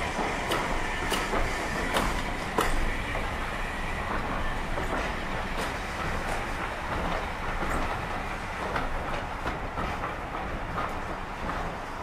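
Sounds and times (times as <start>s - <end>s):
train rumbling on track: 0.0s - 12.0s
wheels clicking over rail joints: 0.0s - 12.0s.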